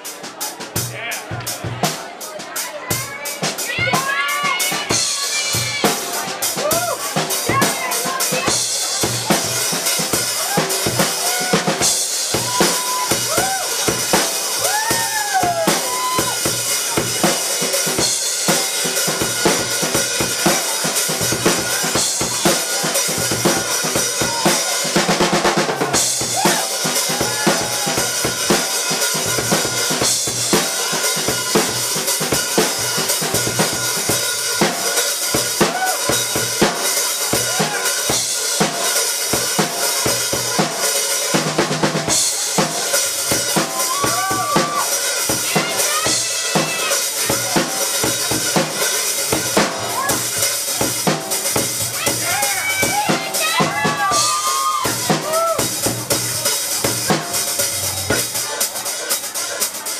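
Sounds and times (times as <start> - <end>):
drum kit solo: 0.0 - 59.9
cymbals washing: 3.3 - 59.9.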